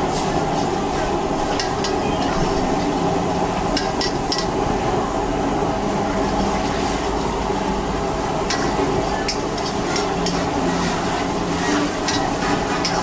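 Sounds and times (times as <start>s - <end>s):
food sizzling: 0.0s - 13.0s
gas burner humming drone: 0.0s - 13.0s.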